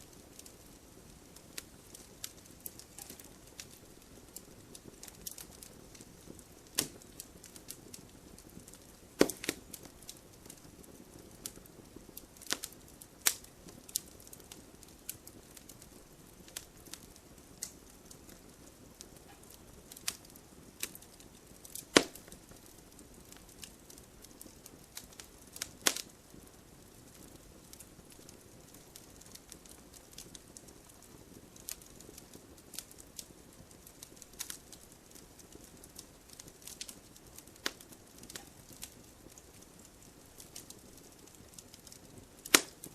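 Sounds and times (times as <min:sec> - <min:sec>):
faint steady hiss: 0:00.0 - 0:42.9
logs crackling and popping: 0:00.0 - 0:42.9.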